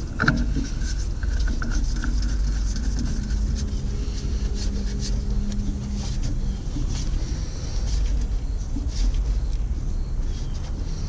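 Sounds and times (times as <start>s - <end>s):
low engine-like rumble: 0.0s - 11.0s
low steady hum: 0.0s - 11.0s.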